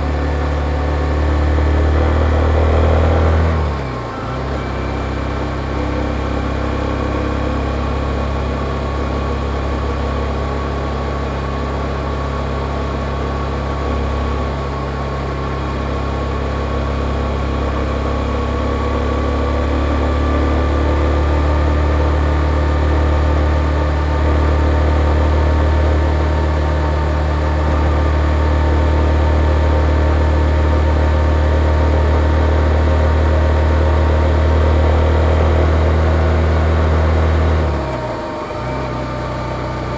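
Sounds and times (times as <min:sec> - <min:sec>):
single-cylinder motorcycle engine: 0:00.0 - 0:39.9.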